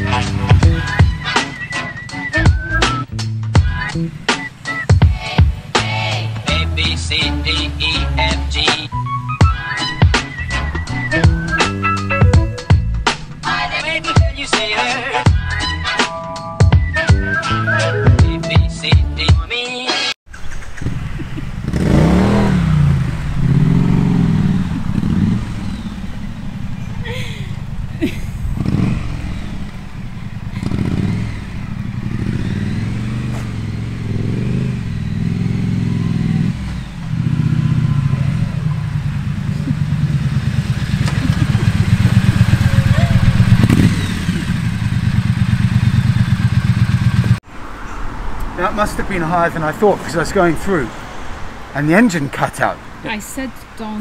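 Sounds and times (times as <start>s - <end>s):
motorcycle engine revving: 0.0s - 17.6s, 20.4s - 47.5s.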